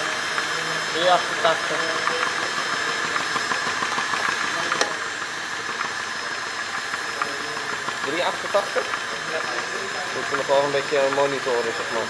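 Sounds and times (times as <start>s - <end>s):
small engine clattering and humming: 0.0s - 12.0s.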